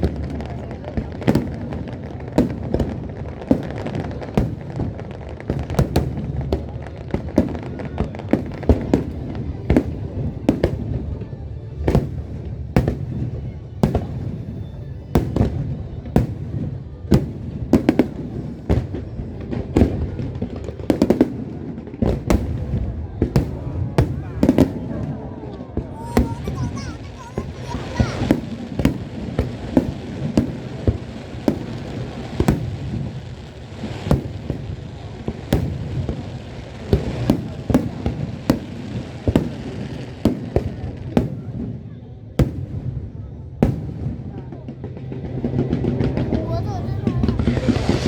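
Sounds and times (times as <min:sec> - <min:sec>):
fireworks bursting: 0:00.0 - 0:48.0
fireworks crackling: 0:00.0 - 0:48.0.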